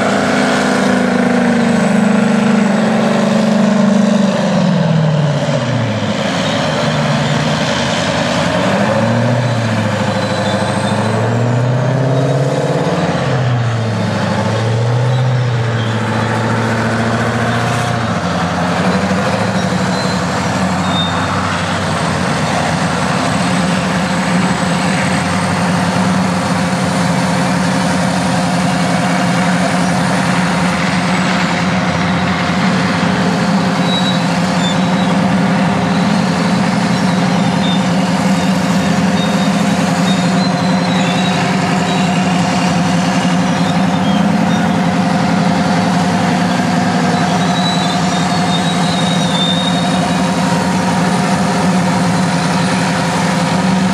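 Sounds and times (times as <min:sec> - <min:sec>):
heavy diesel engines: 0:00.0 - 0:53.9.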